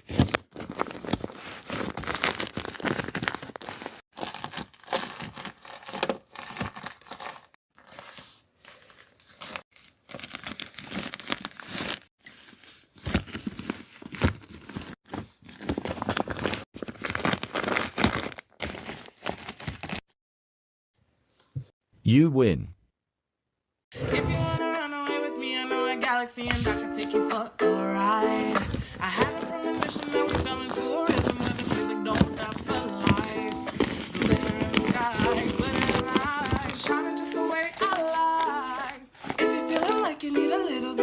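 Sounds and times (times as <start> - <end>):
paper crinkling and crumpling: 0.0 - 20.1, 26.4 - 27.2, 28.2 - 40.2.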